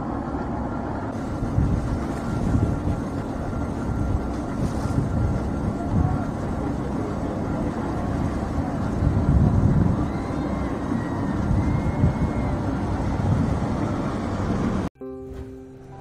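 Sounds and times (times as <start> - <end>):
motorboat engines running: 0.0 - 14.9
wind buffeting microphone: 0.9 - 14.9.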